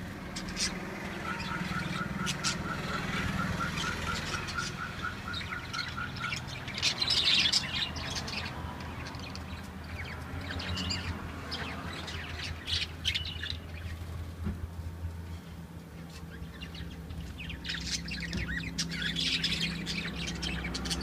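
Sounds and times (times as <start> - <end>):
lovebirds chirping and squawking: 0.0 - 21.0.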